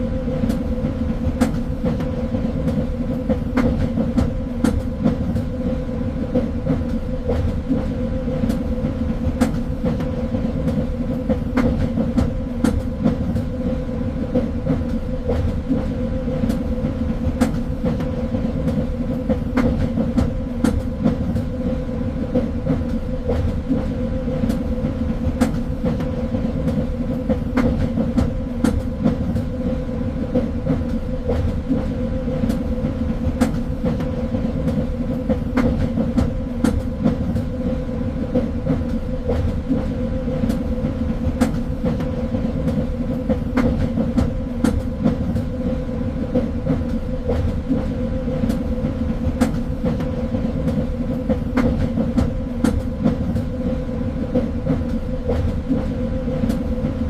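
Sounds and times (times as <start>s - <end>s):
train rumbling along the track: 0.0s - 57.0s.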